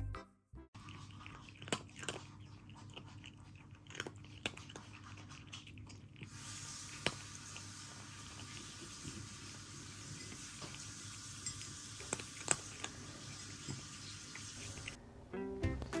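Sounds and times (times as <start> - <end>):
cat crunching dry kibble: 0.8 - 13.8.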